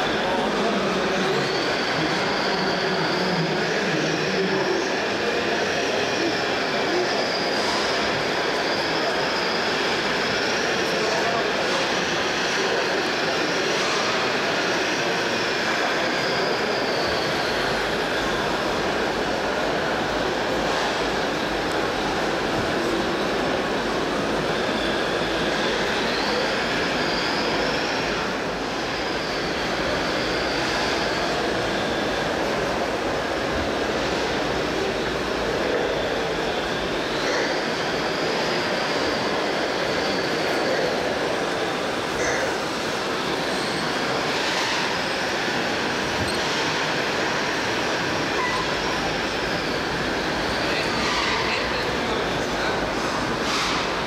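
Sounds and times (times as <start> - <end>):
model trucks and machines running: 0.0 - 54.0
steady wash of noise: 0.0 - 54.0.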